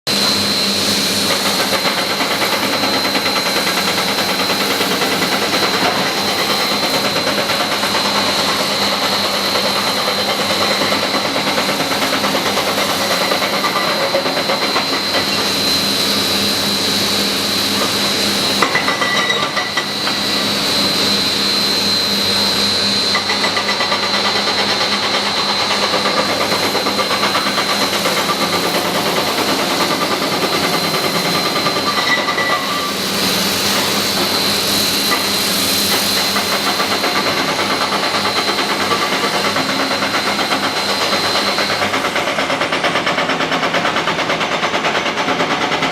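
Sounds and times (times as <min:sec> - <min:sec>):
high-pitched whine: 0:00.1 - 0:42.7
excavator diesel engine running: 0:00.1 - 0:45.9.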